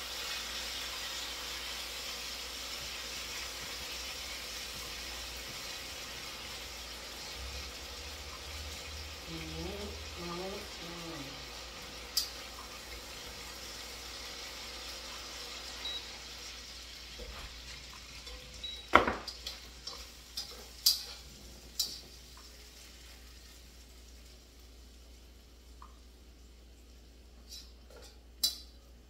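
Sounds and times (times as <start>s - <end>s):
vegetables sizzling in a frying pan: 0.0s - 29.0s.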